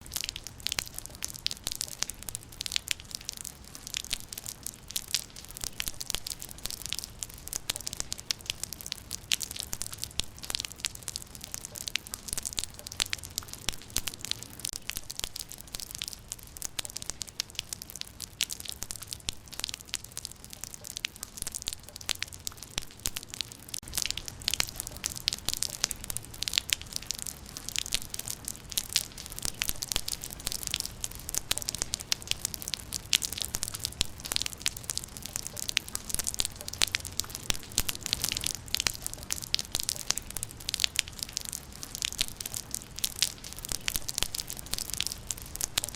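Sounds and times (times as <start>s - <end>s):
rain on a hard surface: 0.0s - 45.9s.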